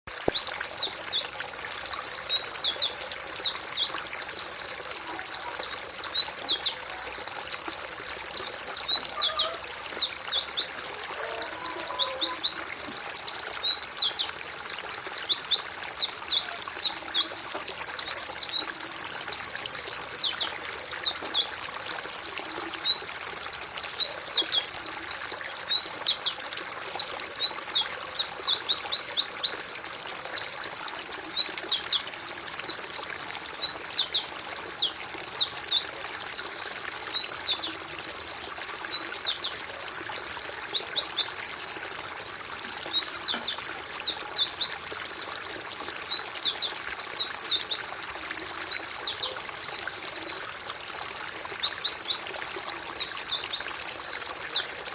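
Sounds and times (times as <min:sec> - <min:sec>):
birds chirping rapidly: 0:00.1 - 0:54.8.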